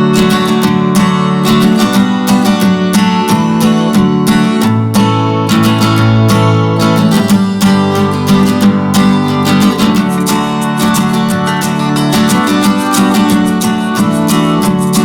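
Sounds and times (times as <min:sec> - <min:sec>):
strummed acoustic guitar music: 0:00.0 - 0:15.0.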